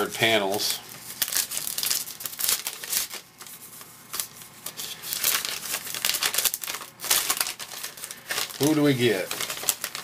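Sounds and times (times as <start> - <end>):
wrapper being torn open: 0.2 - 3.3, 4.1 - 10.0.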